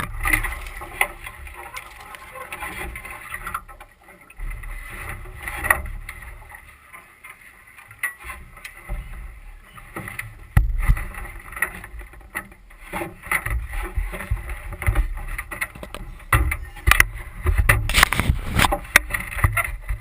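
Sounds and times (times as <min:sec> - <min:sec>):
boat motor rumbling: 0:00.0 - 0:20.0.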